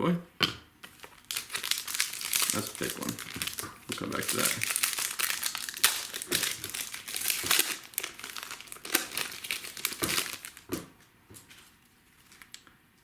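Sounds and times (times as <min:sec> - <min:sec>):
packaging crinkling in hands: 0:00.8 - 0:12.7.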